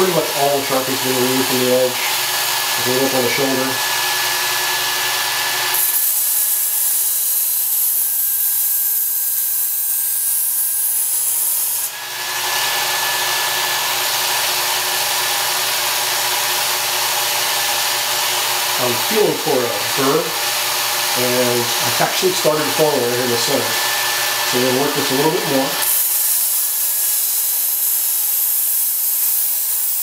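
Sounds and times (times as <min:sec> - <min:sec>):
belt sharpener motor whine: 0:00.0 - 0:30.0.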